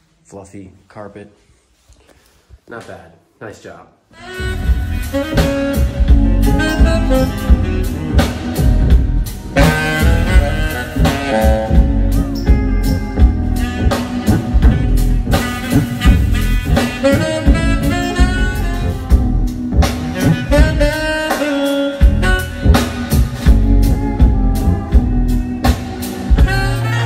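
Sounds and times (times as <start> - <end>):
saxophone line: 4.1 - 27.0
bass: 4.2 - 27.0
drum kit: 4.2 - 27.0.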